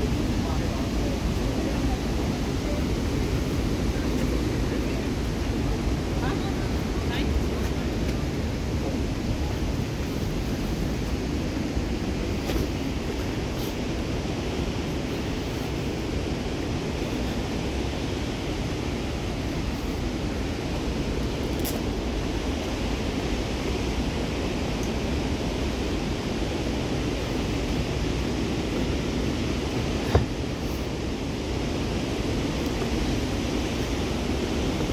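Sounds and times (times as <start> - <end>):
mountain stream rushing: 0.0 - 34.9.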